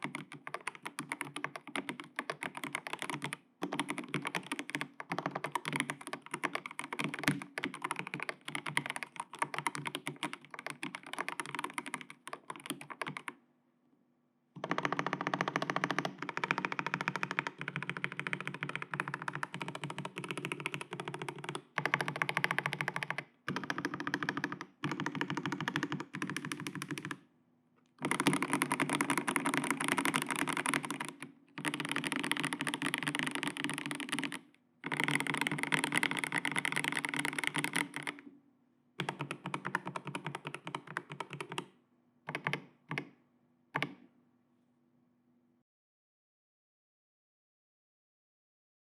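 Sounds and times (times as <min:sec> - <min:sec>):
mechanical keyboard typing: 0:00.0 - 0:13.4, 0:14.6 - 0:27.2, 0:28.0 - 0:38.3, 0:39.0 - 0:41.7, 0:42.3 - 0:43.2, 0:43.8 - 0:44.0.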